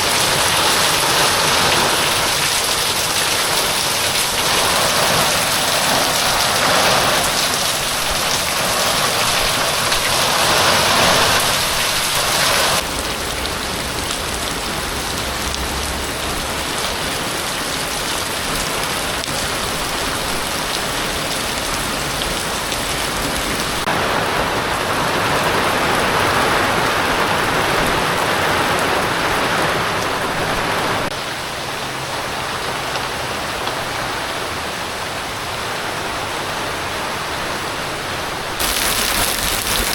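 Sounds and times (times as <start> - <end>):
heavy rain falling: 0.0 - 37.9, 38.5 - 39.9.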